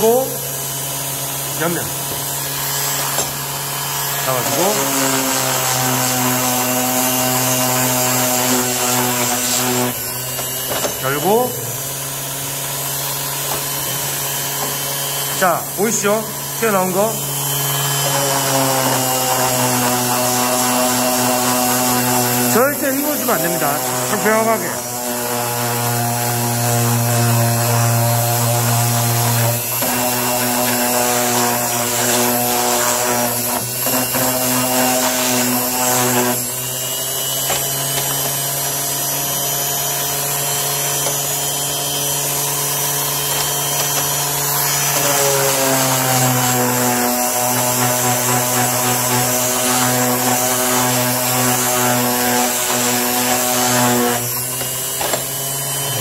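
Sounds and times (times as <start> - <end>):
orbital sander on wood: 0.0 - 56.0.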